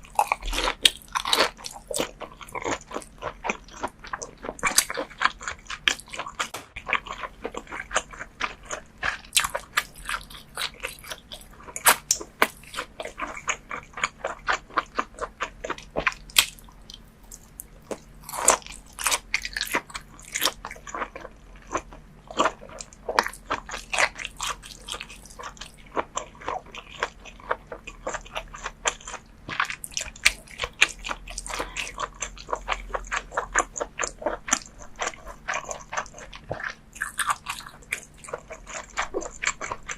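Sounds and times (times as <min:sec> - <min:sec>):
chewing and biting raw fish: 0:00.0 - 0:39.9.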